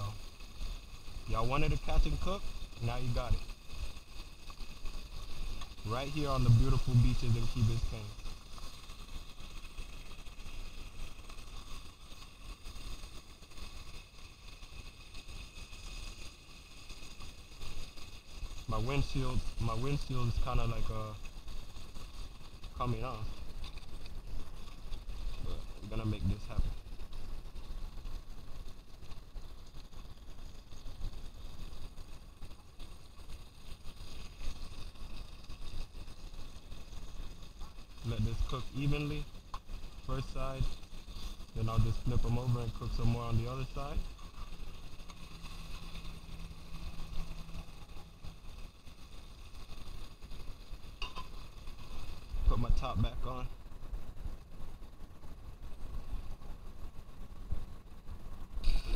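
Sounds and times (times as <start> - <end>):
faint hiss: 0.0 - 58.9.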